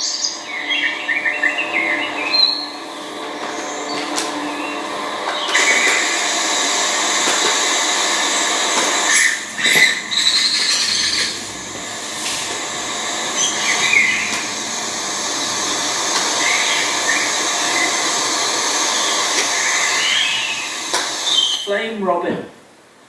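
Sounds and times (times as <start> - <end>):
bird song phrases: 0.0 - 7.0, 8.9 - 22.2
loud hiss: 0.0 - 22.3.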